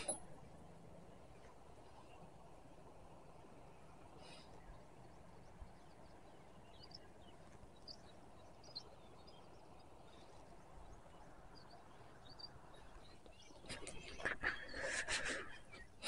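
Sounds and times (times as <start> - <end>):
faint bird chirps: 1.1 - 16.0.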